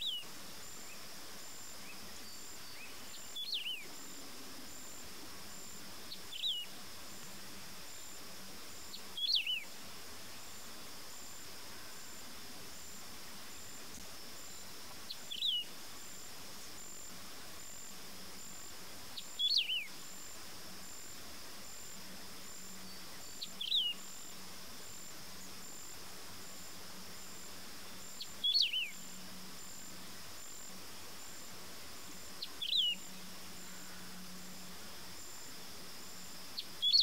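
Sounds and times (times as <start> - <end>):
steady high buzz: 0.0 - 37.0.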